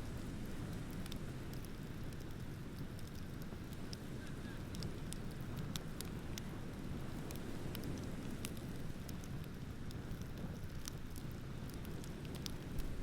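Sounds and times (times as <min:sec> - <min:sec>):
wood bonfire crackling: 0:00.0 - 0:13.0.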